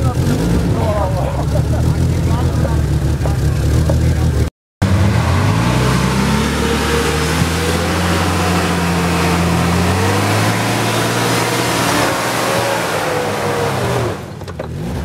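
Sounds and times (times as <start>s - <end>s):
truck engine under load: 0.0s - 15.0s.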